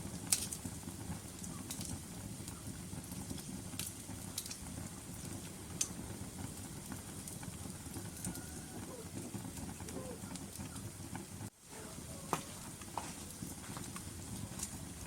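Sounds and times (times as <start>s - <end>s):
fire crackles and pops: 0.0s - 15.0s
rush of fire flames: 0.0s - 15.0s.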